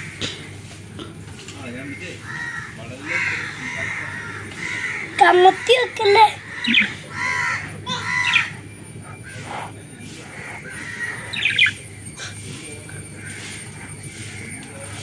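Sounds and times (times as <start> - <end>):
birds calling: 0.0 - 15.0
low steady hum: 2.6 - 15.0.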